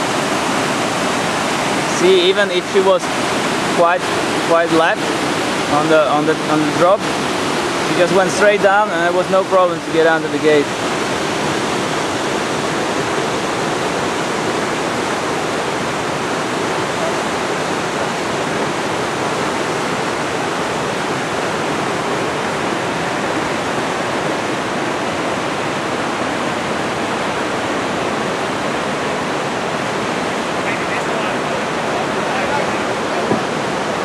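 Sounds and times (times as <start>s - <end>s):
whitewater rapids rushing: 0.0s - 34.0s.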